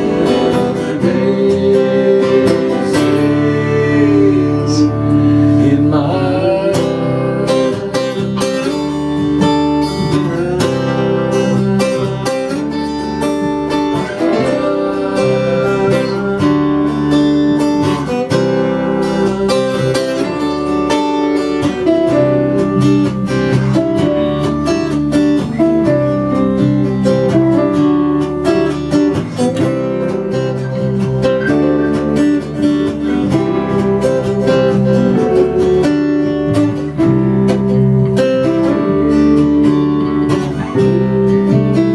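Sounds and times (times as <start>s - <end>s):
acoustic guitar strumming: 0.0s - 41.9s.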